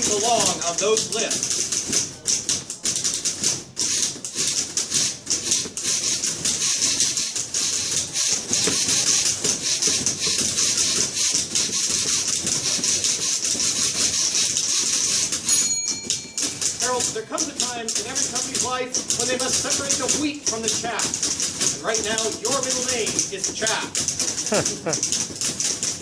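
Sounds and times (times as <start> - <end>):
typewriters clattering: 0.0 - 26.0
typewriter bell ringing: 3.9 - 26.0.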